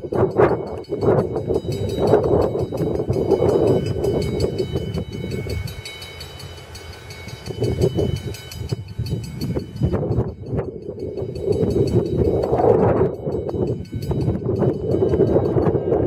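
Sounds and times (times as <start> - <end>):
diesel locomotive engines rumbling: 0.0 - 16.0.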